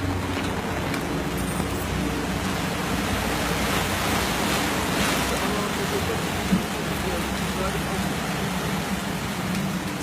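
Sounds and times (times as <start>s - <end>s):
rushing floodwater: 0.0s - 10.0s.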